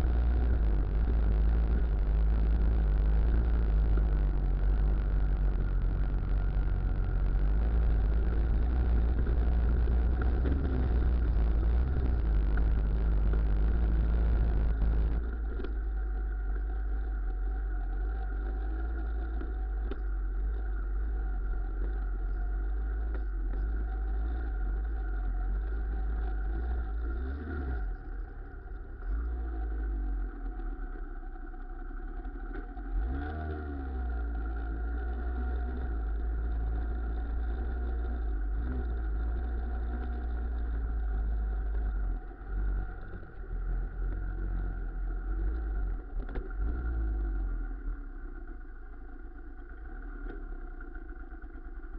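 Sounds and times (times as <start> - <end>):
scooter trike engine running: 0.0 - 51.9.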